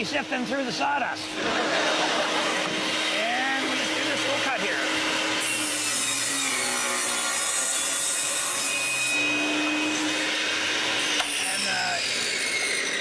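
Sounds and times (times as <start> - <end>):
saw motor hum: 1.2 - 13.0
table saw cutting wood: 1.2 - 13.0.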